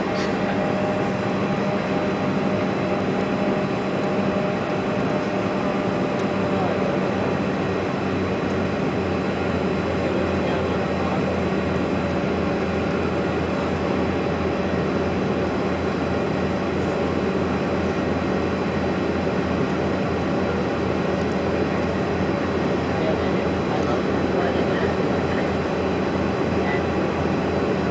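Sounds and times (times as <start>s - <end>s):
jet engine and airflow drone: 0.0s - 27.9s.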